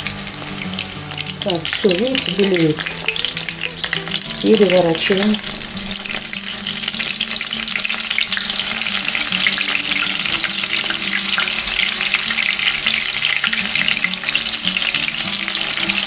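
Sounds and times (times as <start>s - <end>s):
fritters frying in hot oil: 0.0s - 16.0s.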